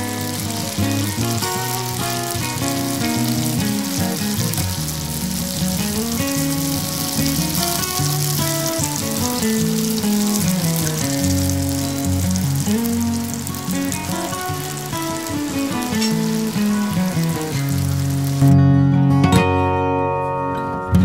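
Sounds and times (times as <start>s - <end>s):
meat sizzling in a pan: 0.0s - 18.5s.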